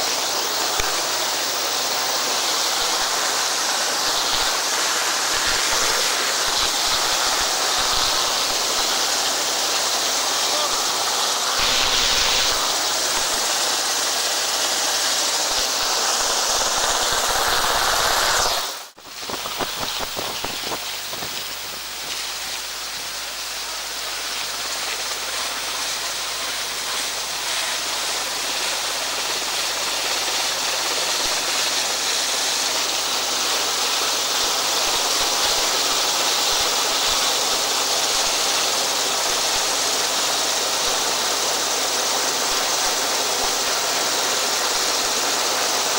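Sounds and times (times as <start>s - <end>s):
rushing wind and water: 0.0s - 45.9s.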